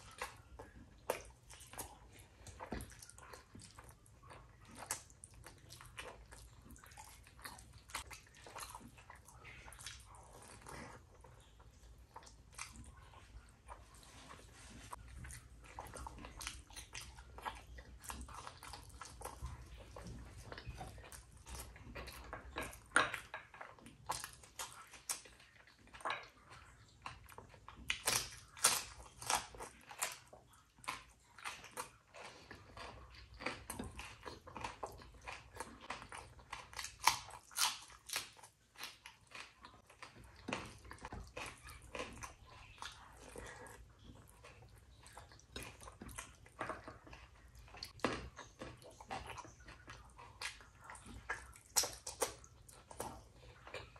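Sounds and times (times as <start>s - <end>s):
chewing and mouth smacking: 0.0s - 53.9s.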